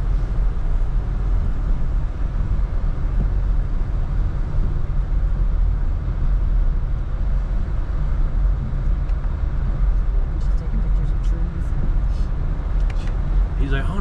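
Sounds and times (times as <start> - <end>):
road and tyre noise: 0.0 - 14.0.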